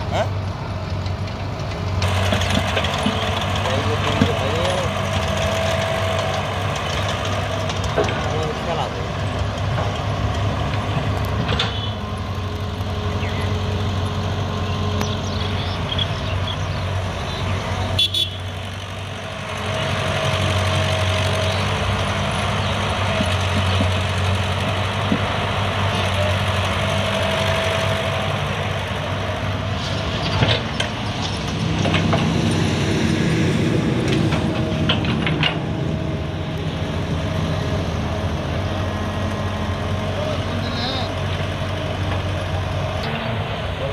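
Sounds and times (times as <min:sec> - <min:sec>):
excavator diesel engine running: 0:00.0 - 0:43.9
high engine whine: 0:00.0 - 0:43.9.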